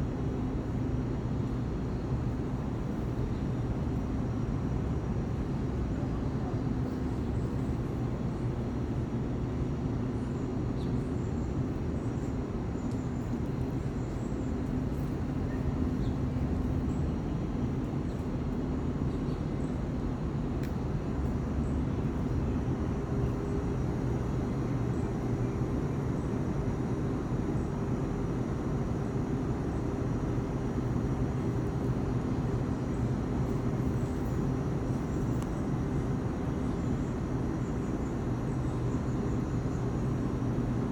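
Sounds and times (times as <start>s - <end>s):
low rumble with droning hum: 0.0s - 40.9s.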